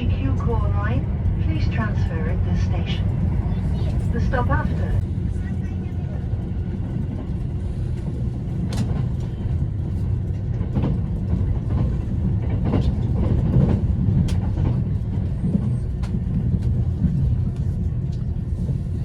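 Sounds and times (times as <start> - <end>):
train running at speed: 0.0 - 19.0.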